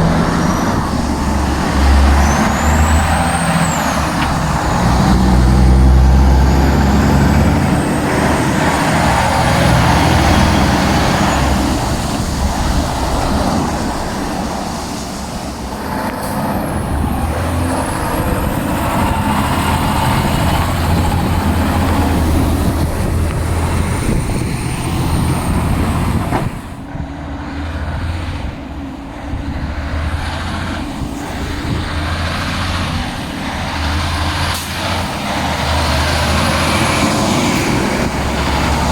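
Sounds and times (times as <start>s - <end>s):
diesel truck engines droning: 0.0s - 38.9s.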